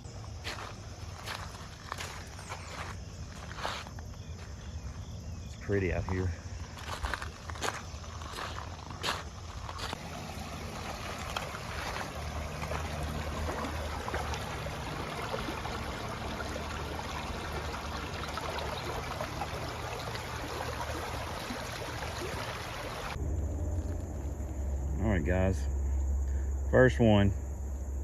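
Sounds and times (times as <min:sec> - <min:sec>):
creek water trickling: 0:00.0 - 0:26.7.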